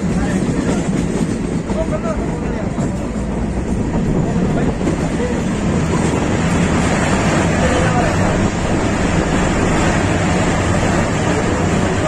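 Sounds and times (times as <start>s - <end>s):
train running on track: 0.0s - 12.0s
wind buffeting microphone: 0.0s - 12.0s.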